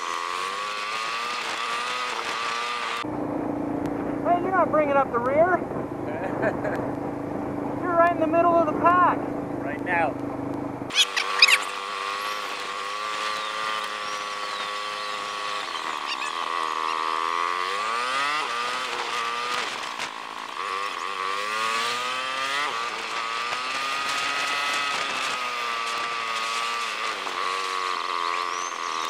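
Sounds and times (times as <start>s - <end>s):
bike tyres humming on pavement: 0.0s - 29.0s
road and wind noise: 0.0s - 29.0s.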